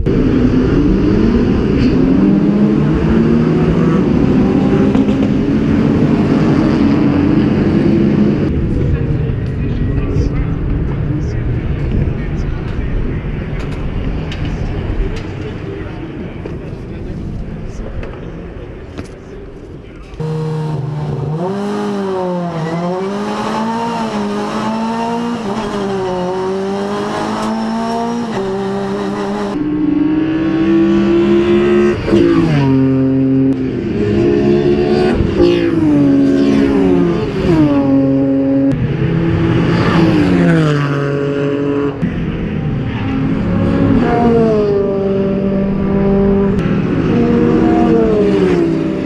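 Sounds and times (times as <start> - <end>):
race car engine revving: 0.0 - 17.9, 20.1 - 49.0
race cars passing by: 0.0 - 49.0.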